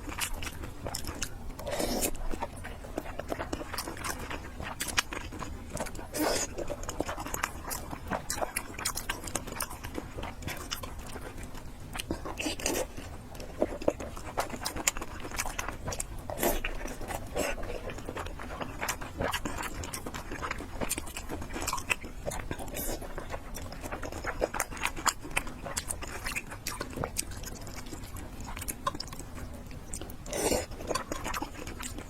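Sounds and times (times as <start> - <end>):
wet chewing and slurping: 0.0 - 32.0.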